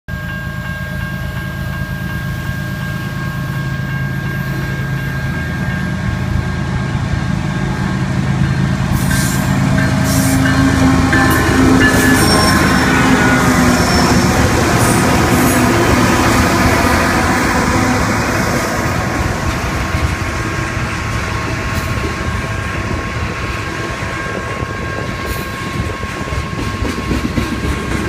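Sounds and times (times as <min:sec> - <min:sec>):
diesel locomotive rumble: 0:00.1 - 0:28.0.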